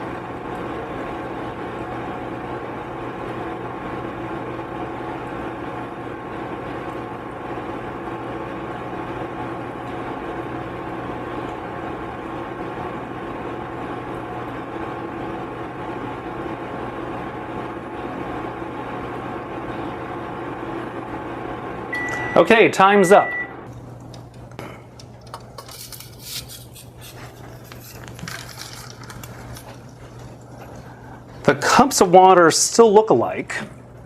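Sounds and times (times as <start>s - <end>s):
microwave oven humming: 0.0s - 34.0s.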